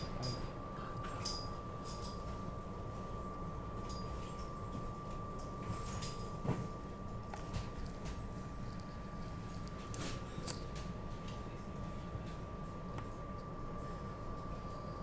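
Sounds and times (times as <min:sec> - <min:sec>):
low hum inside rail car: 0:00.0 - 0:15.0.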